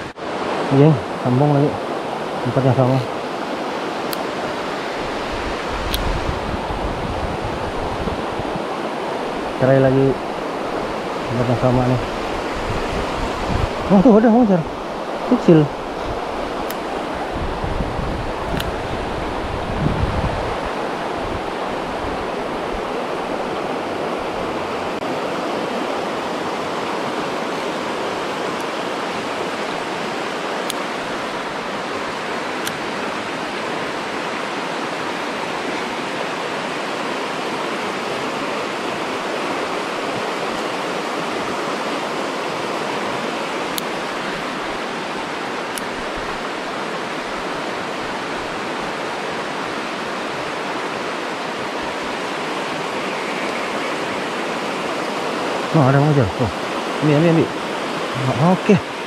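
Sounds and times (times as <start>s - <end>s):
mountain stream rapids rushing: 0.0s - 59.0s.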